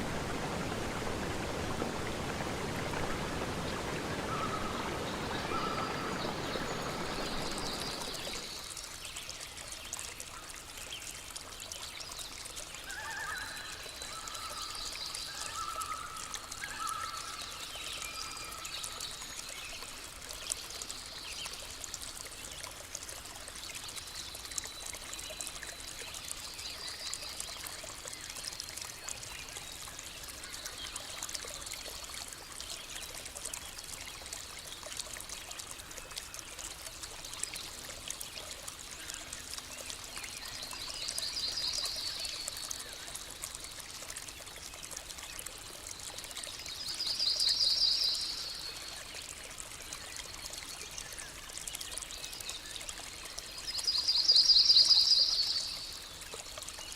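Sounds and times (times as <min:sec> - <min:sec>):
stream trickling: 0:00.0 - 0:56.9.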